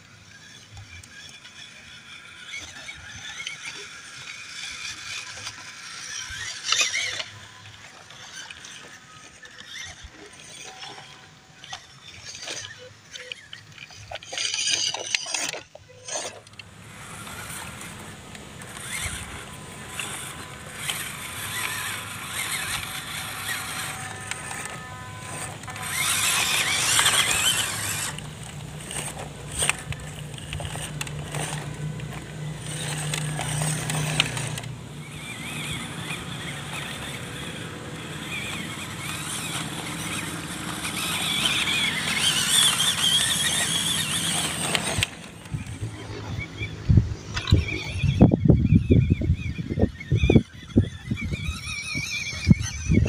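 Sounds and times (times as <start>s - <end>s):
toy truck motors whining: 0.0s - 53.0s
tyres scrabbling on soil: 2.4s - 53.0s.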